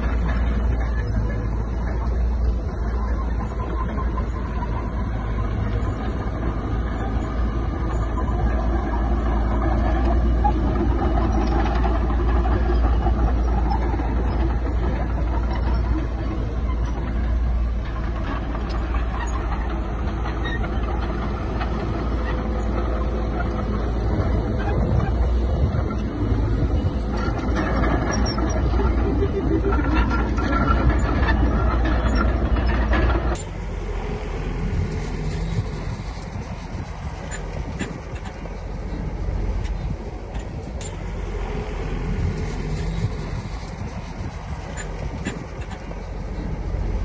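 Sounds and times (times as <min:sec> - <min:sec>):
diesel engine rumble: 0:00.0 - 0:47.0
mechanical clatter: 0:00.0 - 0:47.0.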